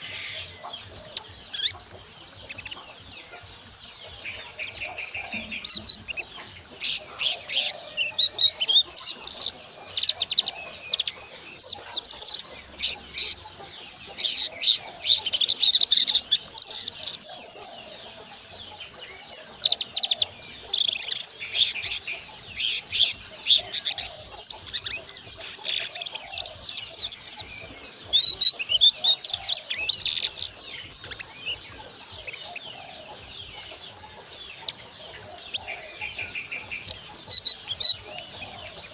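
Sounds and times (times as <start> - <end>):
sunbird twittering: 0.0 - 38.9.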